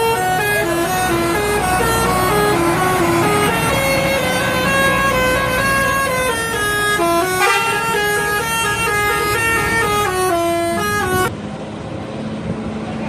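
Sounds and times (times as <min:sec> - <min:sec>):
musical air horn playing tune: 0:00.0 - 0:11.3.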